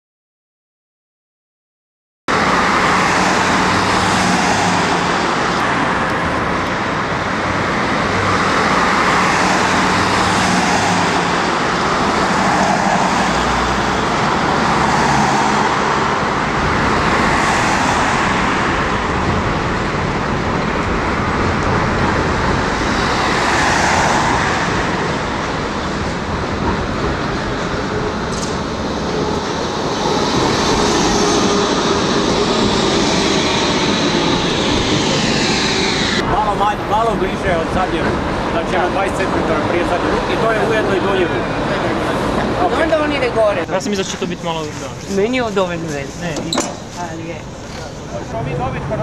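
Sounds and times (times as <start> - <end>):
cars passing: 2.3 - 49.0
tram passing: 2.3 - 49.0.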